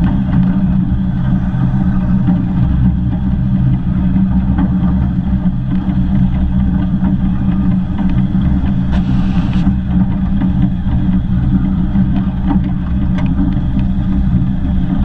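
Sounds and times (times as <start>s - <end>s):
steam locomotive rumble: 0.0s - 15.0s.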